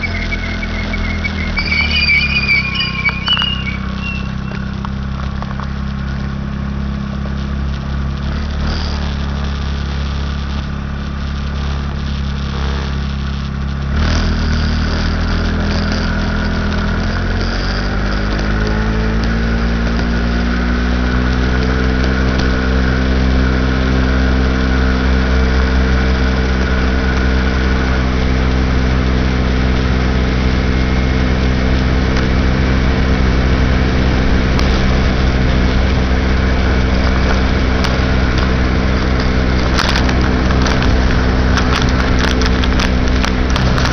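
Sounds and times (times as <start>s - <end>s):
moped engine: 0.0s - 43.9s.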